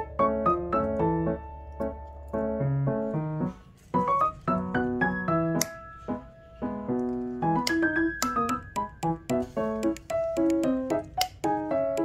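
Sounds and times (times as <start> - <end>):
light piano melody: 0.0 - 12.0.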